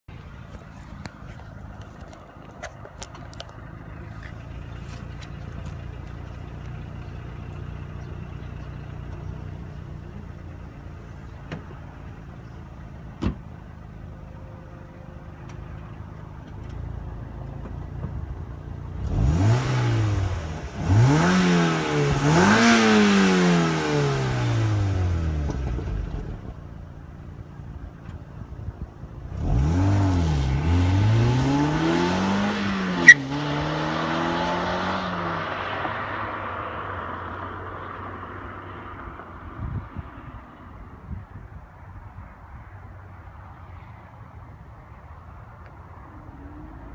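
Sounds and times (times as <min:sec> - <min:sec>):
car engine idling and revving: 0:00.1 - 0:46.9.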